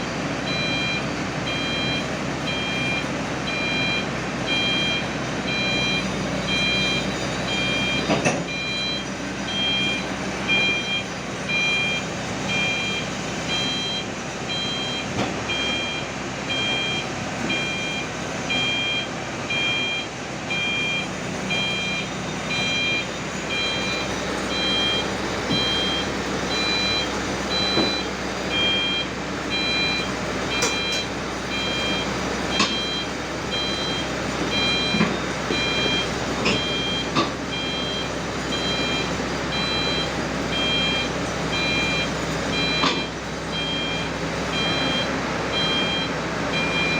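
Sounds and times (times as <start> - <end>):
diesel engine running: 0.0 - 46.9
travel alarm beeping: 0.5 - 46.9.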